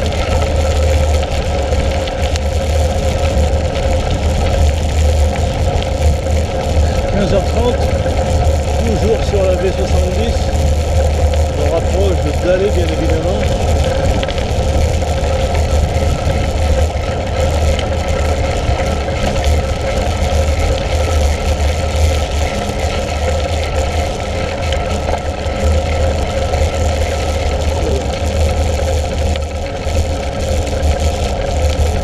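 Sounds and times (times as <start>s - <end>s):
bike tyres rolling on dirt: 0.0s - 32.0s
wind buffeting microphone: 0.0s - 32.0s.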